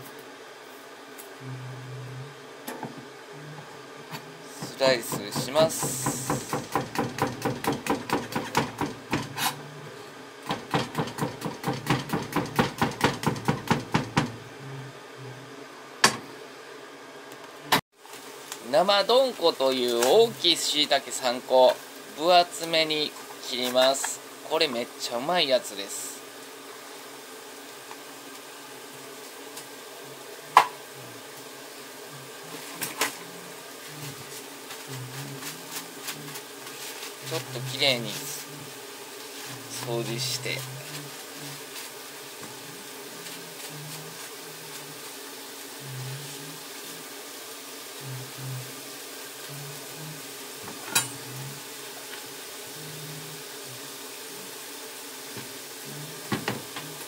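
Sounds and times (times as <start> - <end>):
steady low hum: 0.0 - 17.8, 19.1 - 54.7.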